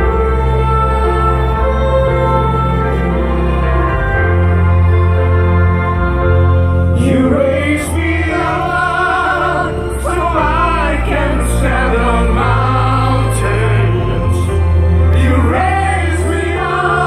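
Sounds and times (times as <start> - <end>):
held chords over loudspeakers: 0.0 - 17.0.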